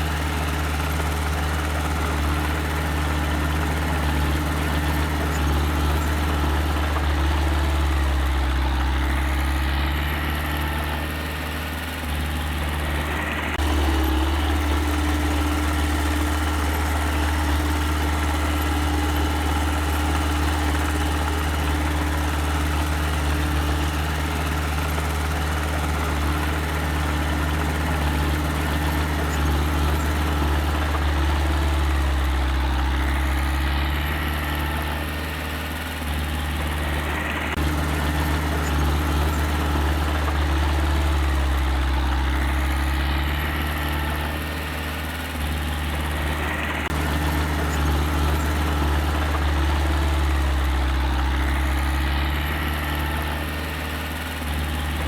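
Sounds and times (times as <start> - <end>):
diesel engine low hum: 0.0 - 55.0.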